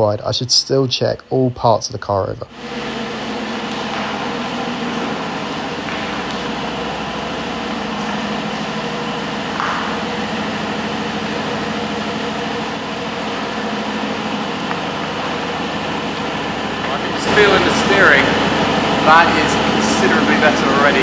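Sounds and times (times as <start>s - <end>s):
car engine and road noise: 2.5s - 21.0s.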